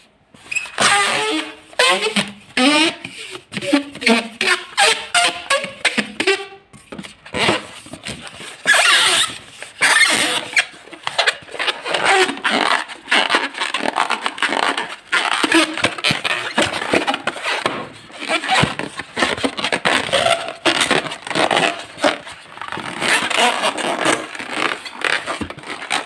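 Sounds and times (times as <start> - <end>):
rubber balloons squeaking: 0.4 - 26.0.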